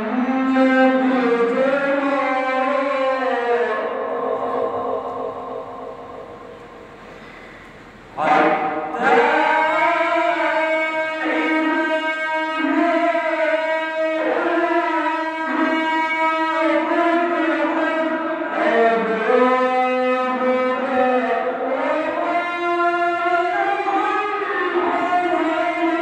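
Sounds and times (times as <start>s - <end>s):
man chanting melodically: 0.0s - 7.0s, 8.0s - 26.0s.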